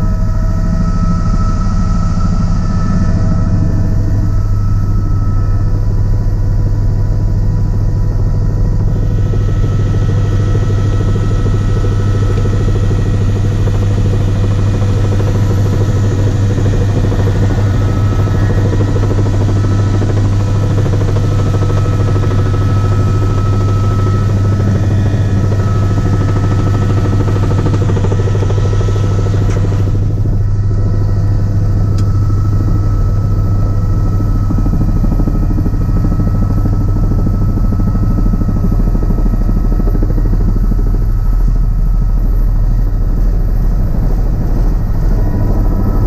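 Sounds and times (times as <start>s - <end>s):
helicopter rotor and engine drone: 0.0s - 46.0s.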